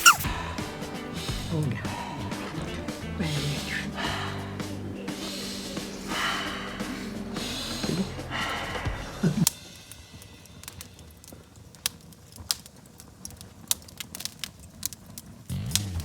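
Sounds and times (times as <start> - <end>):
charcoal fire crackling and popping: 0.0 - 16.0.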